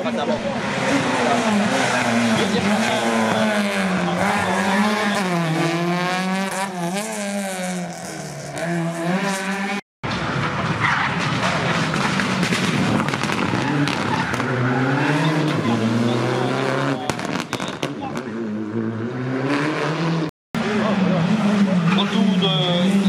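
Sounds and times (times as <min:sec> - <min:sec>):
rally car engines at full throttle: 0:00.0 - 0:23.0.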